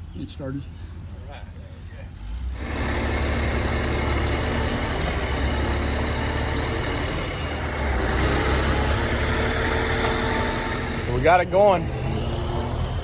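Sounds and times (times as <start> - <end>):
crane engine humming: 0.0 - 13.0.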